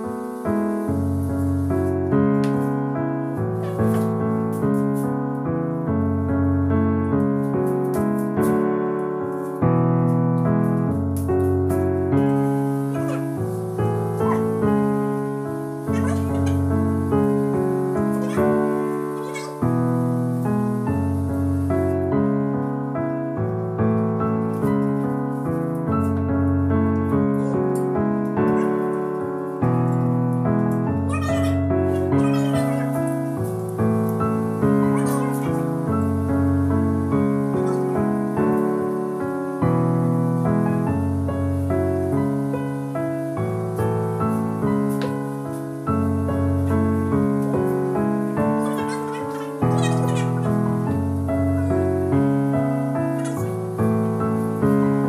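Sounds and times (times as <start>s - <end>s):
piano chords: 0.0s - 55.0s.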